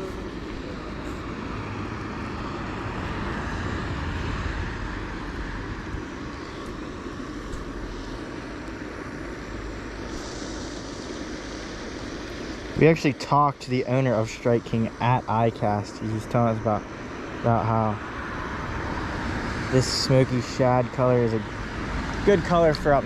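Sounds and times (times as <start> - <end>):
outdoor rumbling noise: 0.0 - 23.0.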